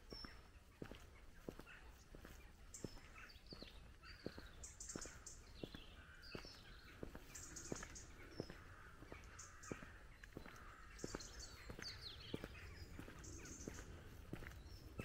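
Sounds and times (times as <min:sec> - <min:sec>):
birds singing and chirping: 0:00.0 - 0:15.0
faint footsteps walking: 0:00.0 - 0:15.0.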